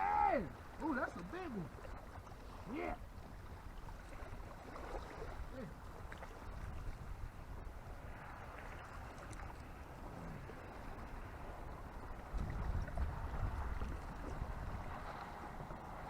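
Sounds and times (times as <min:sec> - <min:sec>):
water noise: 0:00.0 - 0:16.0
wind buffeting microphone: 0:00.0 - 0:16.0.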